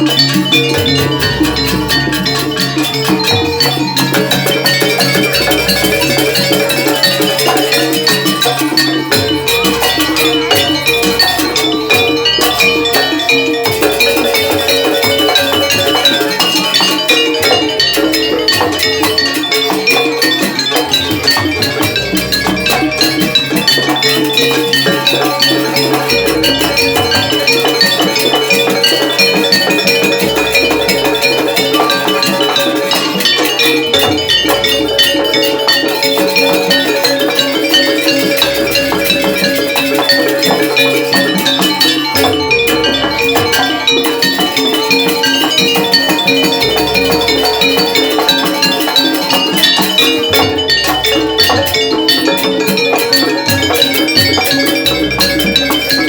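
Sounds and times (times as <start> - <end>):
drums: 0.0 - 56.0
metal-keyed percussion: 0.0 - 56.0.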